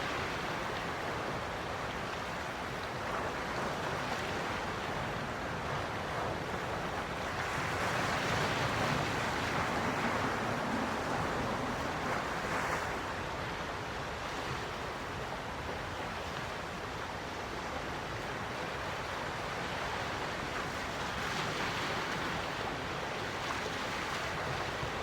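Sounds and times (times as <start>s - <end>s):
sea waves washing onto shore: 0.0s - 25.0s.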